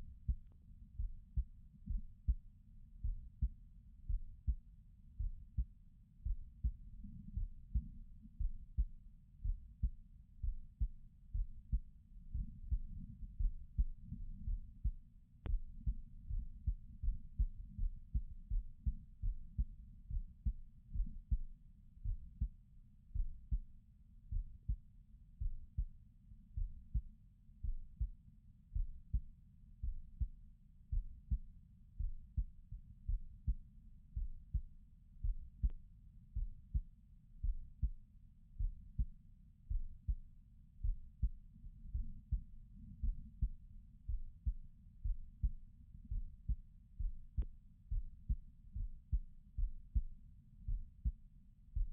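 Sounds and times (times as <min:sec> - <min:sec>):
heartbeat: 0:00.0 - 0:38.0, 0:38.6 - 0:51.9.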